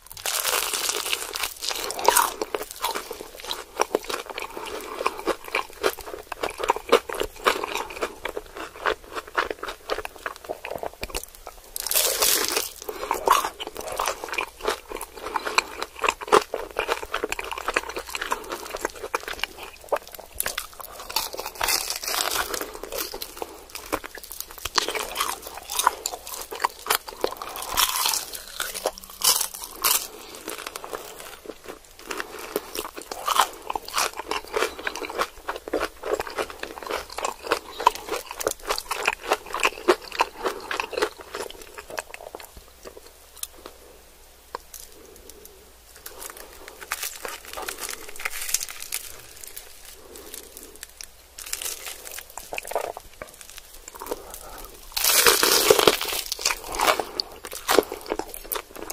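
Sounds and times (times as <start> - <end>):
crunchy chewing: 0.0 - 43.9, 44.5 - 58.9.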